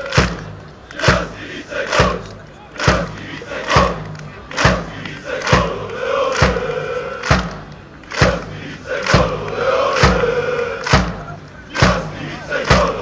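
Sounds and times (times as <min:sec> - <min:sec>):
big drum beating: 0:00.0 - 0:13.0
football supporters chanting: 0:00.0 - 0:13.0.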